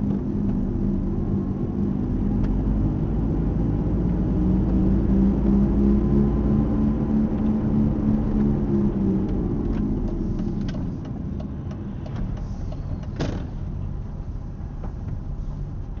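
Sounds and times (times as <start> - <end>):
road noise: 0.0 - 16.0.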